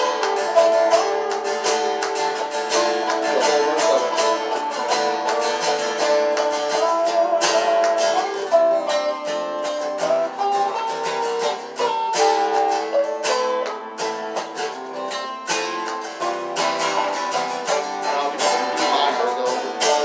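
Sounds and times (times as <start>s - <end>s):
picked acoustic guitar melody: 0.0s - 20.0s
strummed acoustic guitar rhythm: 0.0s - 20.0s.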